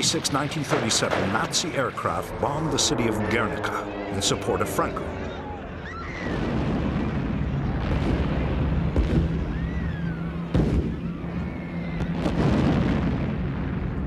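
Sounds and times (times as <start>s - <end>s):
bomb explosions: 0.0s - 14.0s
low rumbling backdrop: 0.0s - 14.0s.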